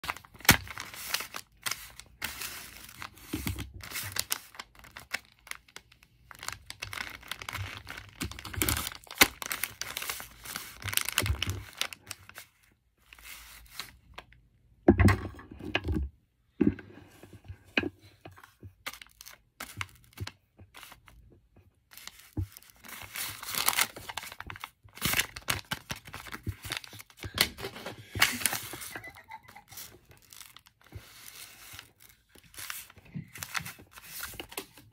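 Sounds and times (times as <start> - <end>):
paper crinkling and tearing: 0.0 - 14.0, 18.8 - 21.1, 21.9 - 34.9.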